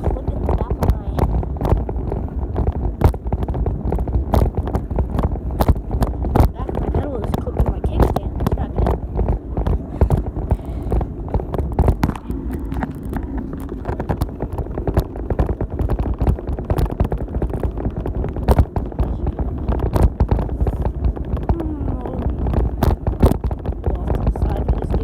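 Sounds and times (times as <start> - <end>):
bicycle rattling: 0.0 - 25.0.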